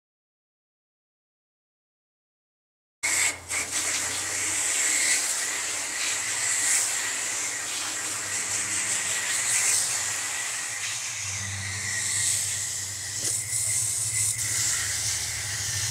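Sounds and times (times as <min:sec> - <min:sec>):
hose spraying water: 0:03.0 - 0:15.9.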